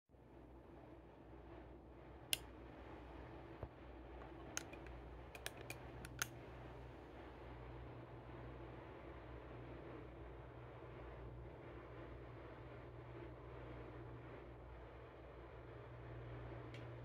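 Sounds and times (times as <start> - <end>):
faint room hum: 0.1 - 17.0.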